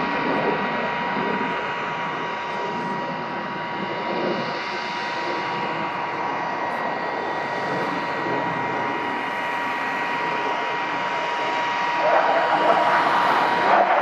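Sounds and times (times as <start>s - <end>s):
jet engine passing overhead: 0.0s - 14.0s.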